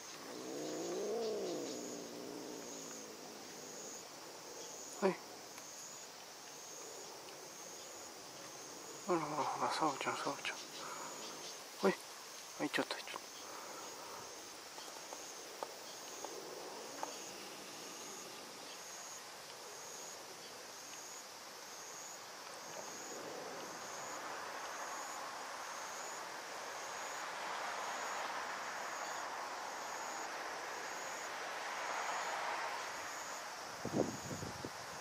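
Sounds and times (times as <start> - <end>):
background hiss: 0.0 - 35.0
insect chirping: 0.0 - 35.0.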